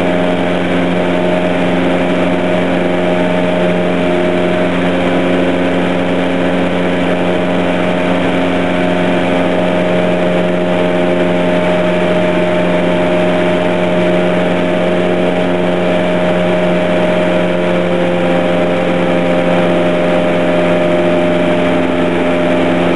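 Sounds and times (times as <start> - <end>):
light aircraft engine and propeller: 0.0 - 22.9.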